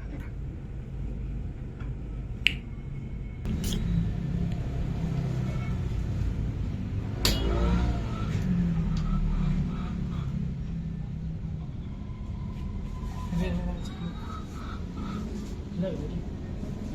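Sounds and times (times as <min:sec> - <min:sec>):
low steady rumble: 0:00.0 - 0:16.9.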